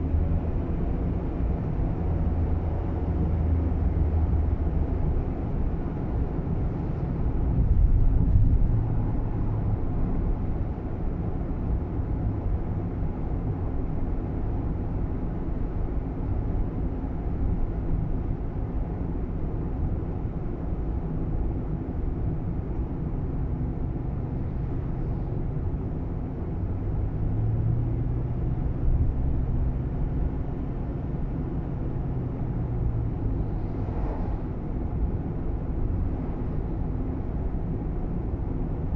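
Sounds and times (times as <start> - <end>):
car engine drone: 0.0 - 38.9
road noise inside car: 0.0 - 38.9.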